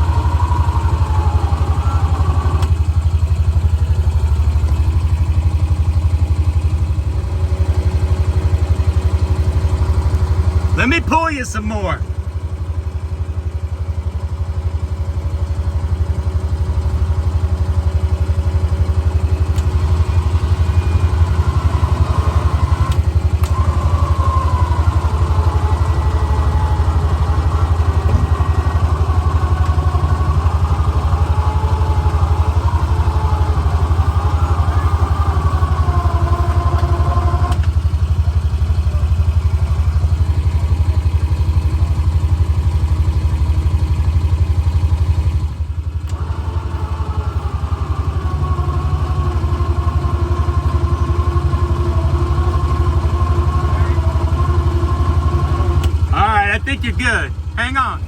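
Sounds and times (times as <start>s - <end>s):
electric winch motor whine: 0.0s - 56.4s
engine idling: 0.0s - 58.0s.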